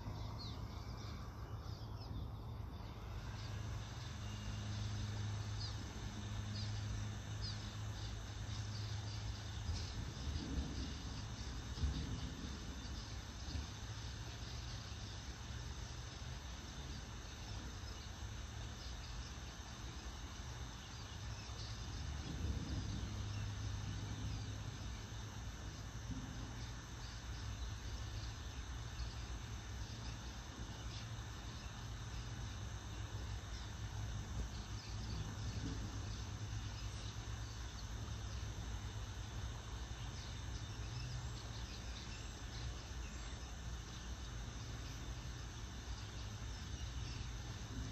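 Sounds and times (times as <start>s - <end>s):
constant low hum: 0.0s - 47.9s.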